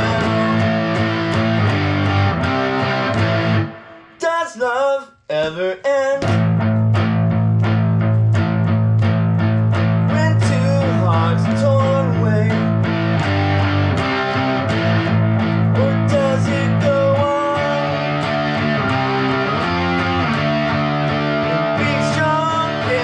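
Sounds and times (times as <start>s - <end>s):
guitar playing chords: 0.0s - 4.3s, 6.2s - 23.0s.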